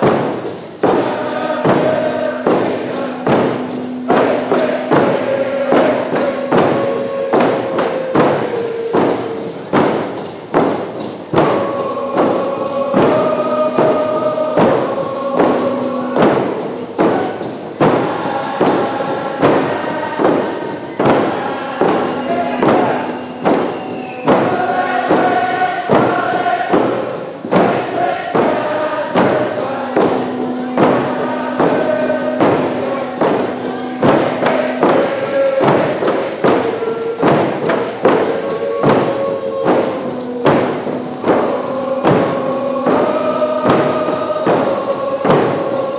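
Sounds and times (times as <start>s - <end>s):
group of voices singing: 0.0s - 45.9s
hand drums beaten in rhythm: 0.0s - 45.9s.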